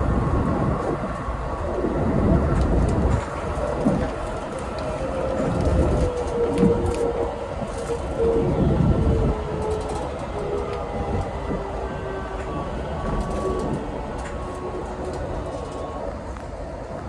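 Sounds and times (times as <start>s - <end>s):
electric train motor whine: 0.0s - 17.0s
train running rumble: 0.0s - 17.0s
wheels clicking on rails: 0.0s - 17.0s.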